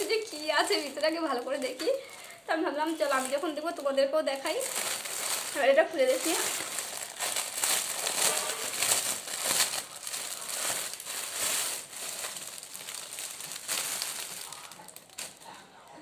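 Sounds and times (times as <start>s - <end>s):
packaging crinkling and rustling: 0.0s - 15.6s.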